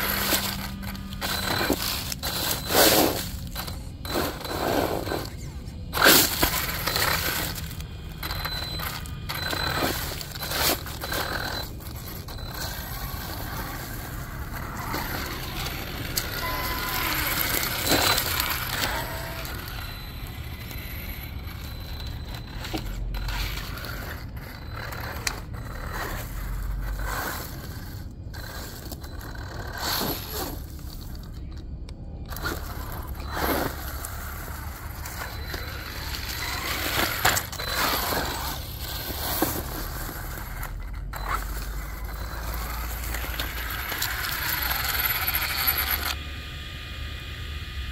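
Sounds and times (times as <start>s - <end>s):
toy truck tires crunching leaves: 0.0s - 46.2s.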